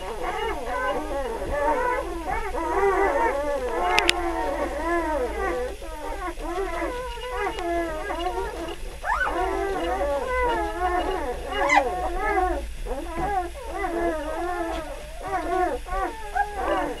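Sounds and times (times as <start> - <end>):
puppies whining and squealing: 0.0 - 17.0.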